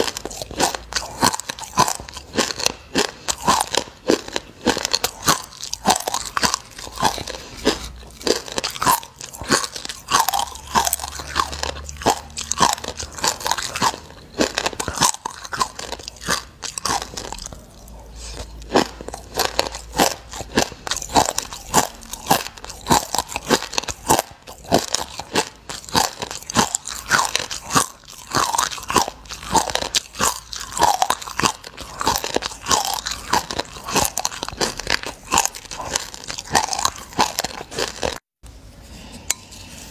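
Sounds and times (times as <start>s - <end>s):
crunchy chewing of seeds: 0.0s - 39.9s.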